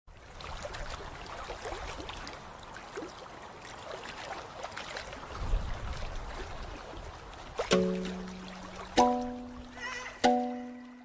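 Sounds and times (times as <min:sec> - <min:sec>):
water trickling and babbling: 0:00.1 - 0:11.0.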